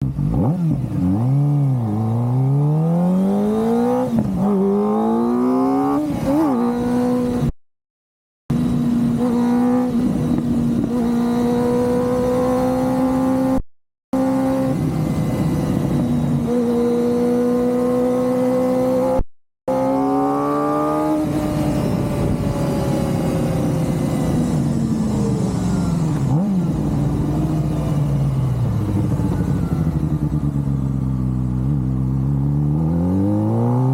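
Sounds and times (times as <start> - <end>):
motorcycle engine revving: 0.0 - 7.5, 8.5 - 13.6, 14.2 - 33.9.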